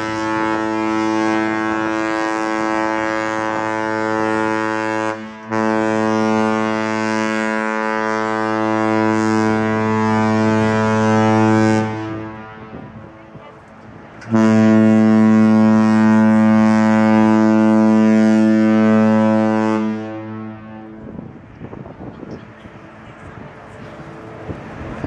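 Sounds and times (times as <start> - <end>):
ship horn deep blast: 0.0 - 25.0.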